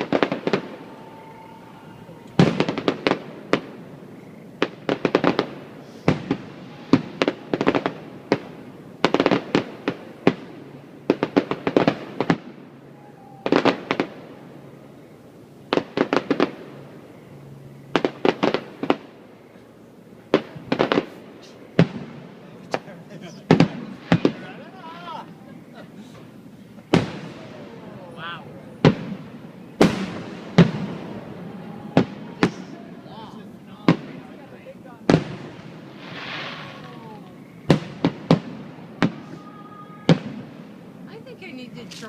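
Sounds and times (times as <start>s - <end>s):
fireworks cracking: 0.0s - 17.2s, 17.9s - 42.0s.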